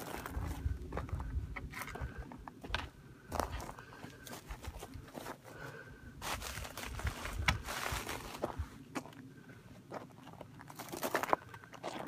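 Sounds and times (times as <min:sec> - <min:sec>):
rustling and crunching: 0:00.0 - 0:12.0.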